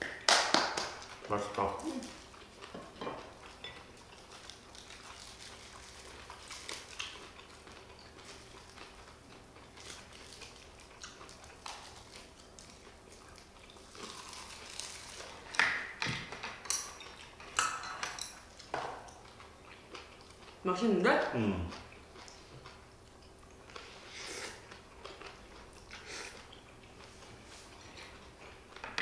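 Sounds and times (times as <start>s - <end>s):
chewing and mouth noises: 0.9s - 17.6s, 18.3s - 20.6s, 21.3s - 28.8s.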